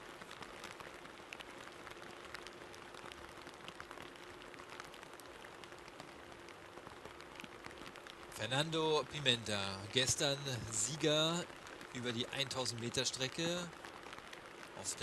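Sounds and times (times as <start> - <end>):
faint steady hum: 0.0 - 15.0
light rain patter: 0.0 - 15.0.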